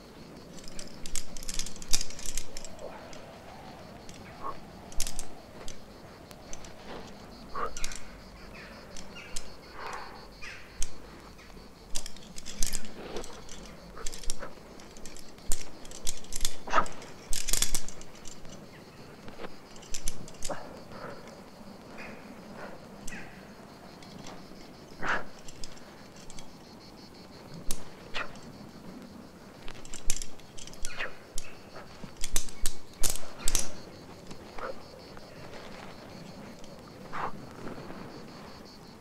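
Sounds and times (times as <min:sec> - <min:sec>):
carabiners clinking: 0:00.0 - 0:38.7.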